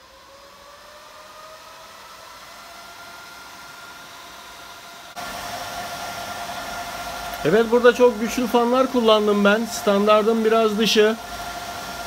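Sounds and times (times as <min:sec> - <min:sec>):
cooling fans whirring: 0:00.0 - 0:12.0.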